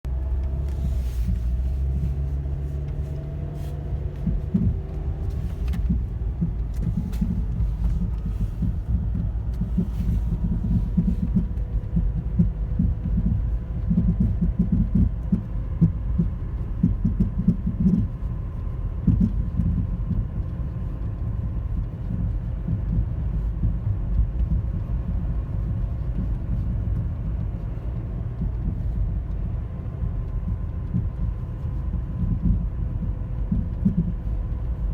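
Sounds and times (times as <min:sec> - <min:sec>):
steady low rumble: 0:00.0 - 0:34.9
car thumping and popping: 0:00.1 - 0:34.9.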